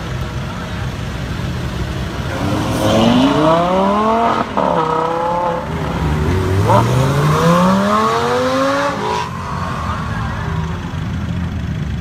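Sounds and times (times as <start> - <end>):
supercar engine accelerating: 1.7 - 12.0.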